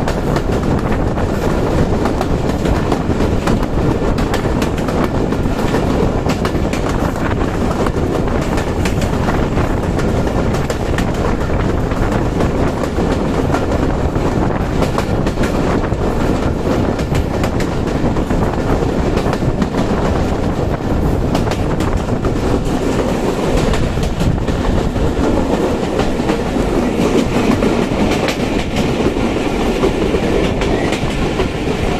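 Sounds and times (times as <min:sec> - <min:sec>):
train rumble: 0:00.0 - 0:31.9
wheels clickety-clack on rail joints: 0:00.0 - 0:31.9.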